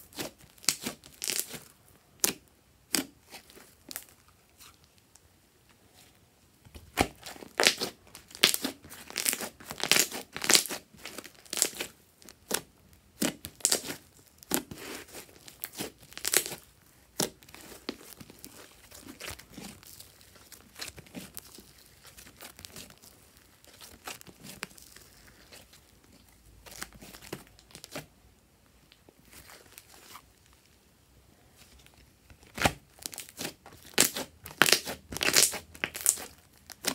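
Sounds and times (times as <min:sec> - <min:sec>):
slime crackling and popping: 0:00.1 - 0:04.2, 0:06.8 - 0:28.0, 0:32.4 - 0:36.9.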